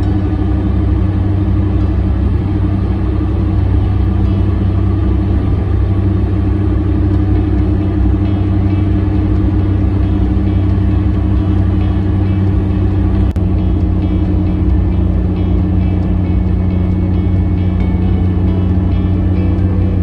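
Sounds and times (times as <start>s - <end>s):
car engine humming: 0.0s - 20.0s
tyre and road noise: 0.0s - 20.0s.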